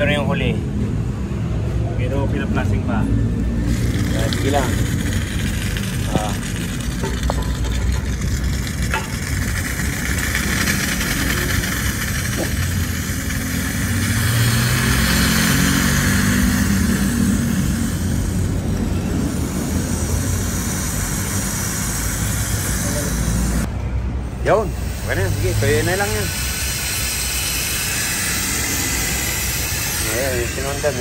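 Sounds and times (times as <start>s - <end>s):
engine humming: 0.5s - 31.0s
hiss: 3.7s - 23.7s, 24.6s - 31.0s.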